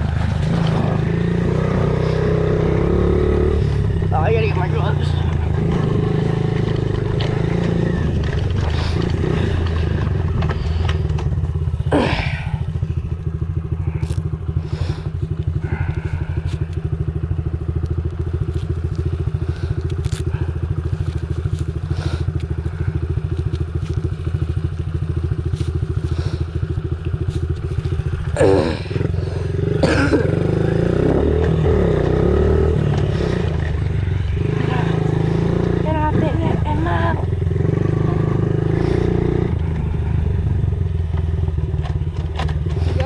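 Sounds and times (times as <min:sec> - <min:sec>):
small motorbike engine idling: 0:00.0 - 0:43.0.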